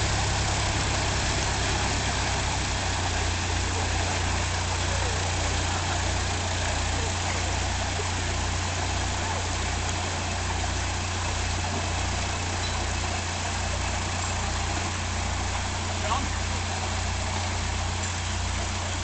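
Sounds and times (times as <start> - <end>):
churned water hiss: 0.0 - 19.0
diesel engine throbbing: 0.0 - 19.0.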